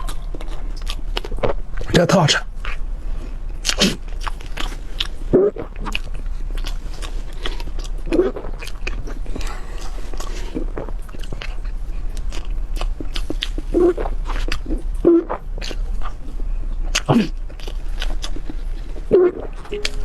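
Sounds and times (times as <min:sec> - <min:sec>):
wet chewing and lip smacks: 0:00.0 - 0:20.0.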